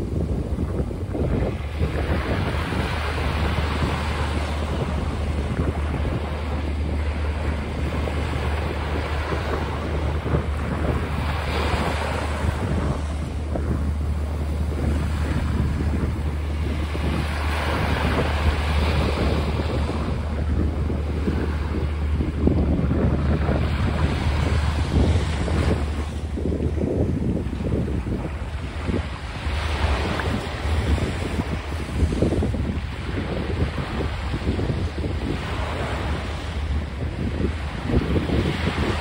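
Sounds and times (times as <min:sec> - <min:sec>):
waves breaking on a sandy beach: 0:00.0 - 0:39.0
wind buffeting microphone: 0:00.0 - 0:39.0.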